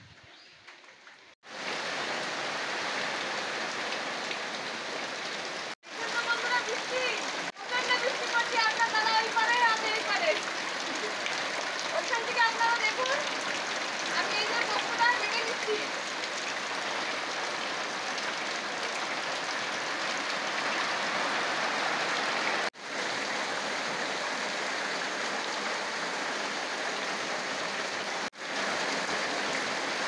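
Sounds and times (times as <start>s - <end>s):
steady rain falling: 0.8s - 30.0s.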